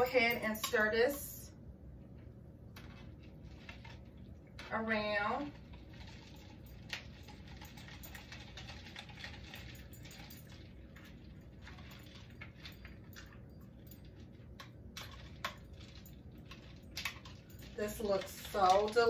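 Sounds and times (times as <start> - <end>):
ice cubes clinking in a pitcher: 2.8 - 19.0.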